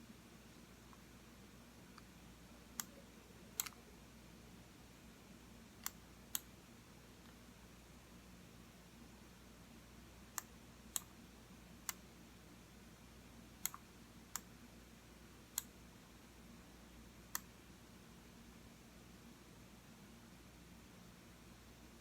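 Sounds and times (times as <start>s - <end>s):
faint room hum: 0.0s - 22.0s.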